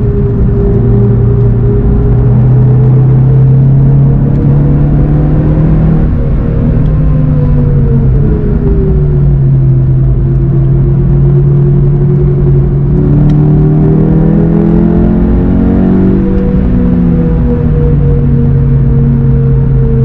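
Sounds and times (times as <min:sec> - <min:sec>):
car engine heard from inside: 0:00.0 - 0:20.0.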